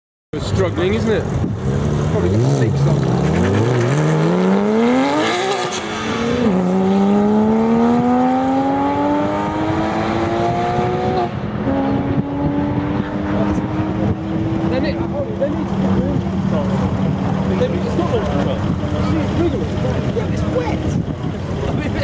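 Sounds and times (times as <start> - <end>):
sports car engine accelerating: 0.8 - 22.0.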